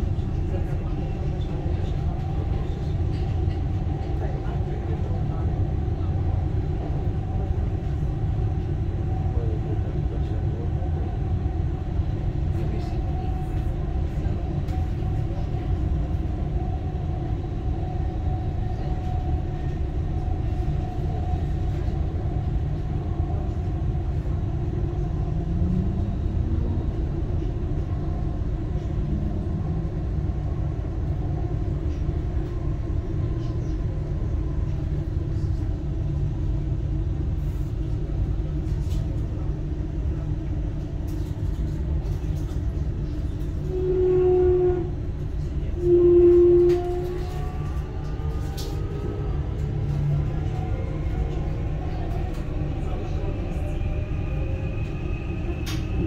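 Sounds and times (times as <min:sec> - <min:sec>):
train rumble with faint whine: 0:00.0 - 0:56.0.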